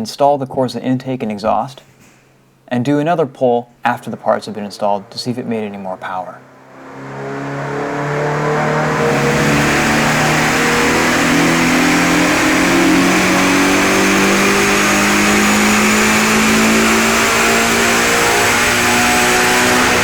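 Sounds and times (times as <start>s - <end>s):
car engine at full throttle: 3.9s - 20.0s.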